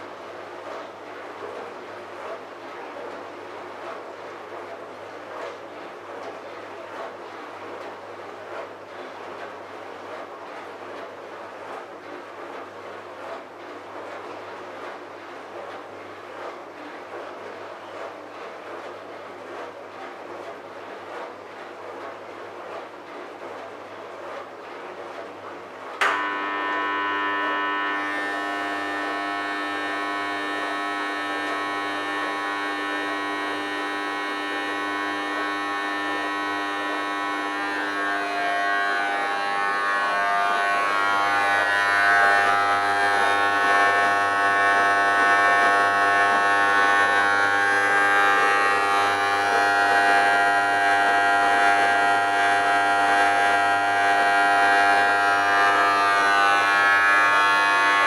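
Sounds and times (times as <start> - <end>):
dishwasher buzzing whine: 0.0 - 58.0.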